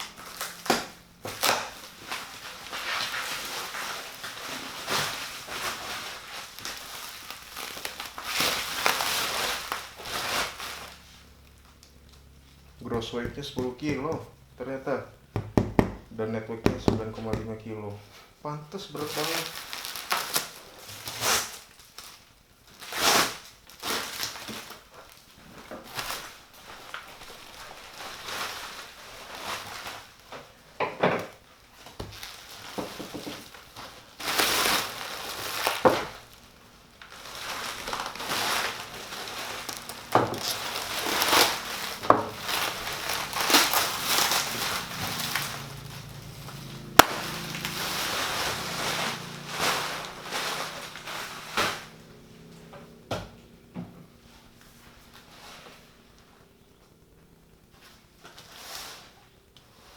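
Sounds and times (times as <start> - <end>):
cardboard and packing rustling: 0.0 - 59.9.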